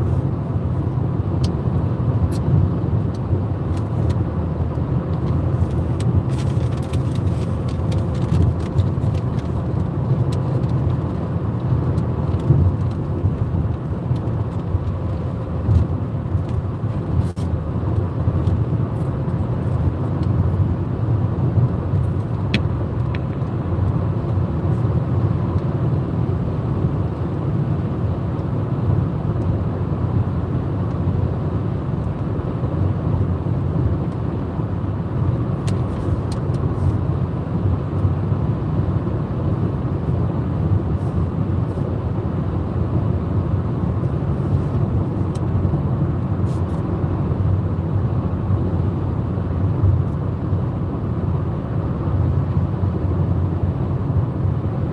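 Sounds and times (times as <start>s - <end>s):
car driving at highway speed: 0.0s - 54.9s.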